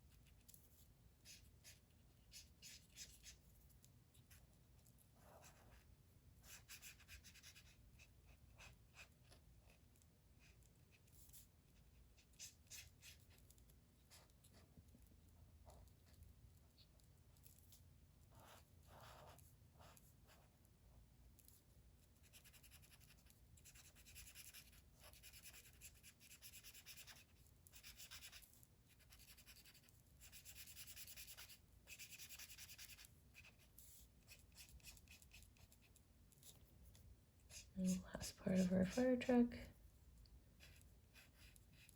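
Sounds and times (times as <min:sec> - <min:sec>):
colouring tool scratching on paper: 0:00.1 - 0:04.4, 0:05.2 - 0:14.7, 0:18.3 - 0:20.5, 0:22.1 - 0:39.8, 0:40.6 - 0:41.9.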